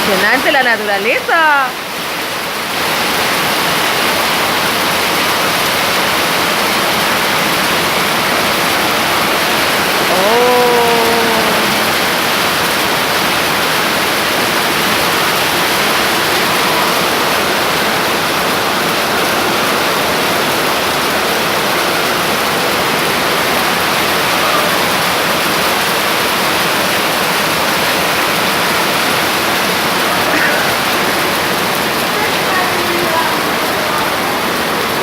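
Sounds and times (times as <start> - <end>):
heavy rain pouring: 0.0 - 35.0
water rushing and splashing: 0.0 - 35.0.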